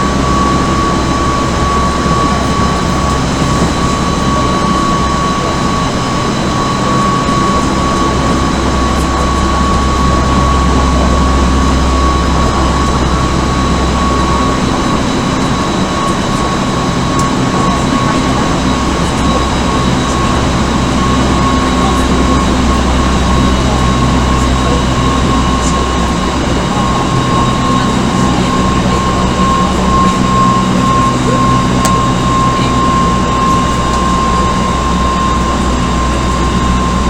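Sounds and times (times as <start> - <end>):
wheel and rail rumble: 0.0 - 37.0.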